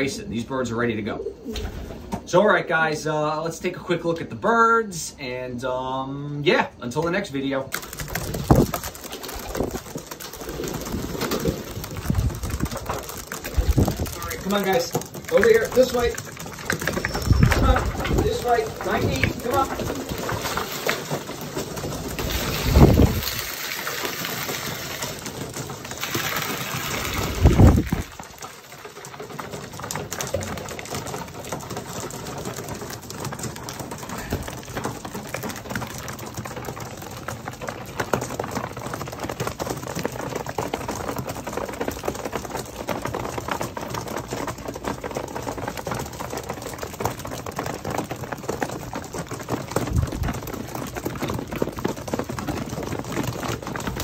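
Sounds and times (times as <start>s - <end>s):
pigeons pecking grain: 0.0s - 4.1s, 5.2s - 54.0s
wings flapping: 1.2s - 2.3s, 7.7s - 54.0s.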